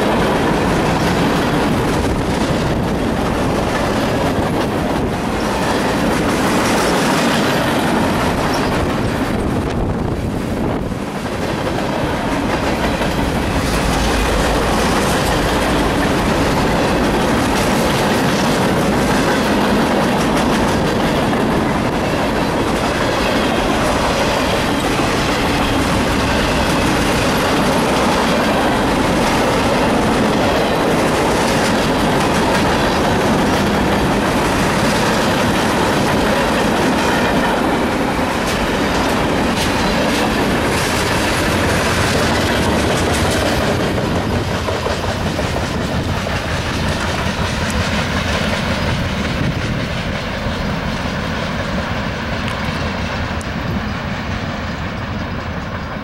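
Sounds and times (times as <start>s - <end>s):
wheels clattering over rail joints: 0.0s - 51.0s
freight train rumbling past: 0.0s - 56.0s.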